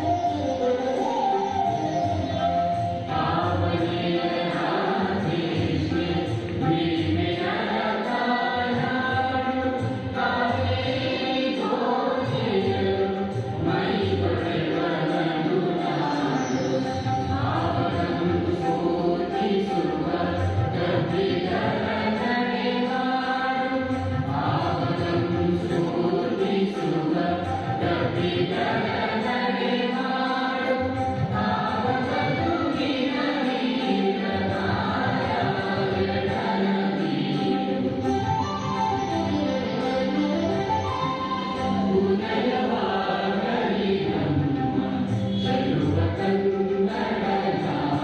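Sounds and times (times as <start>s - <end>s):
group singing in chorus: 0.0s - 48.0s.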